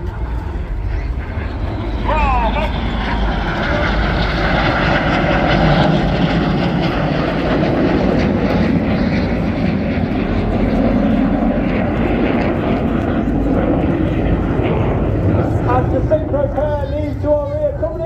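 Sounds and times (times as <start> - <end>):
jets flying past: 0.0 - 18.0.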